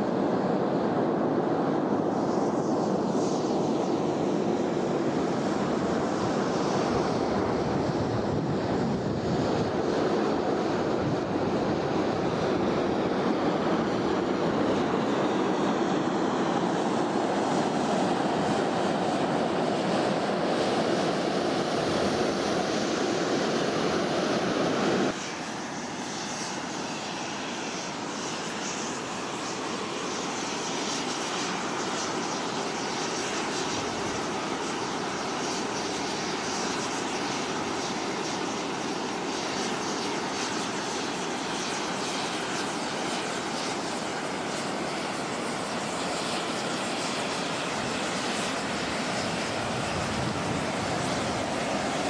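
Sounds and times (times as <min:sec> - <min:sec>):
steam venting with loud hiss: 0:00.0 - 0:52.0.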